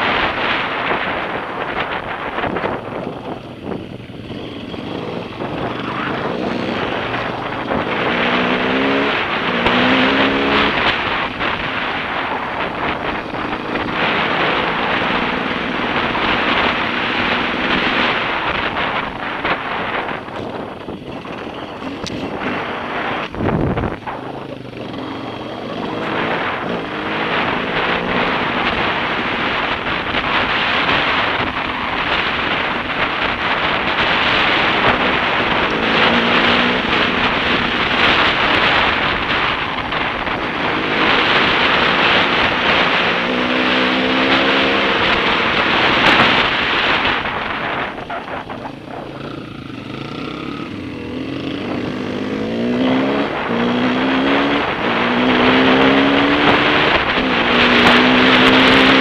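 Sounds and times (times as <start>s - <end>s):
dirt bike engine revving: 0.0s - 59.0s
wind rushing over microphone: 0.0s - 59.0s.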